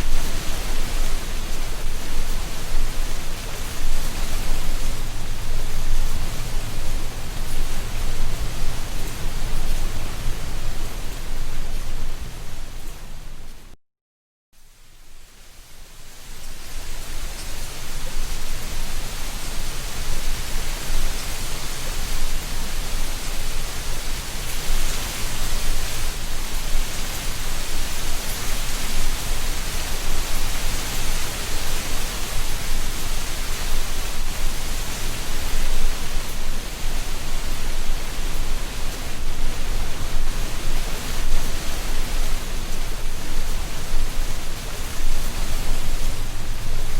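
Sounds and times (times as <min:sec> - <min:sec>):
wind through treetops: 0:00.0 - 0:13.8, 0:14.6 - 0:46.9.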